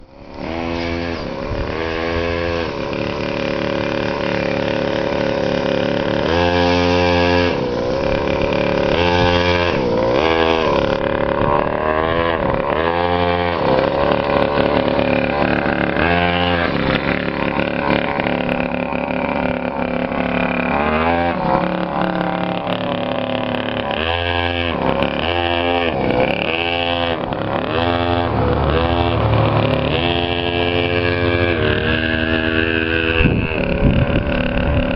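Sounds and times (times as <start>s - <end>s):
small motorcycle engine revving: 0.0s - 34.9s.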